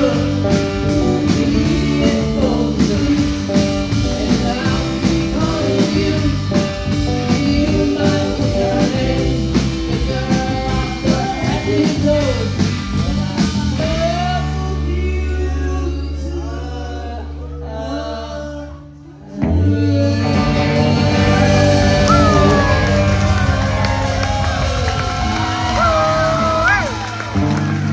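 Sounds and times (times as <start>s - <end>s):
drums: 0.0s - 17.0s, 19.1s - 27.9s
electric guitar: 0.0s - 17.5s, 19.2s - 27.9s
person singing: 0.0s - 23.9s
bass guitar: 0.0s - 27.9s.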